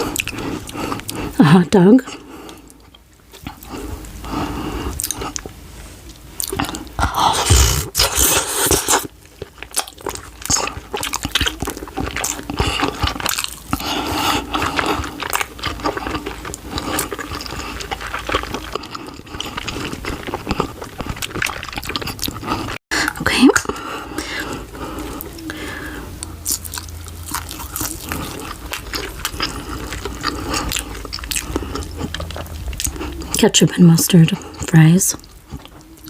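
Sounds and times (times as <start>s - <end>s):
person chewing with wet smacks: 0.0s - 36.0s.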